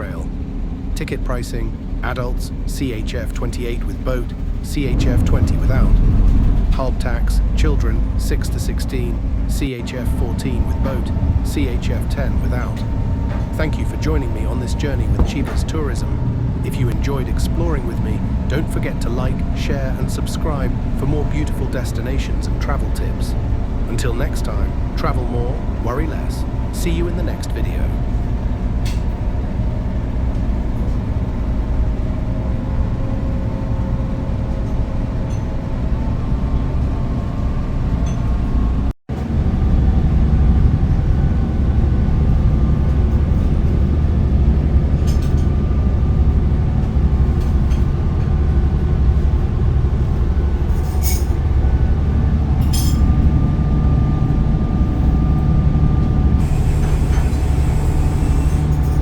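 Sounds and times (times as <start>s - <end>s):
motorboat engine drone: 0.0s - 59.0s.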